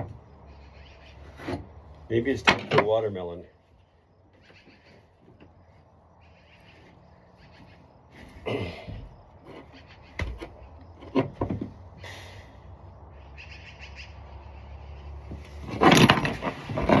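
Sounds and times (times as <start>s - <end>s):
birds chirping: 0.0s - 2.4s, 3.0s - 11.1s, 11.8s - 15.5s.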